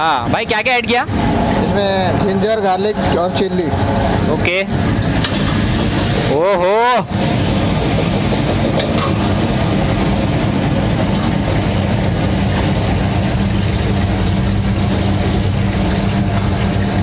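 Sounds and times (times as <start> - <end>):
gas burner roaring: 0.0 - 17.0
low hum: 1.0 - 17.0.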